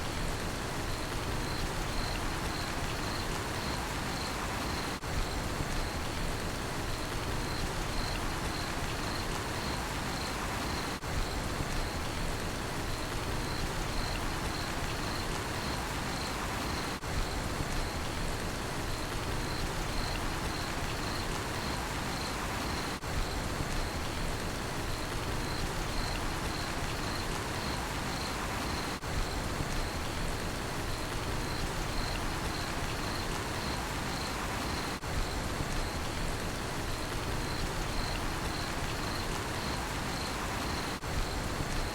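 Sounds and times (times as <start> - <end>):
crickets chirping: 0.0 - 6.2, 6.8 - 18.2, 18.8 - 41.9
steady rainfall: 0.0 - 41.9.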